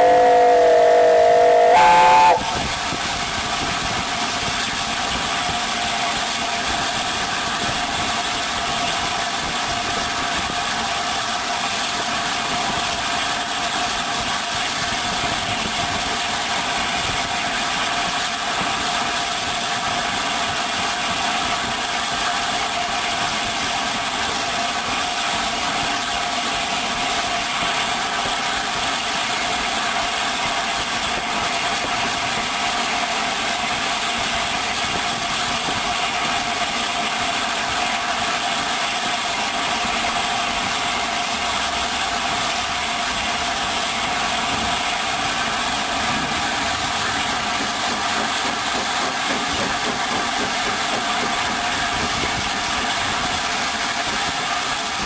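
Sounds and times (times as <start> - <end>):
train mechanical drone: 0.0 - 55.0.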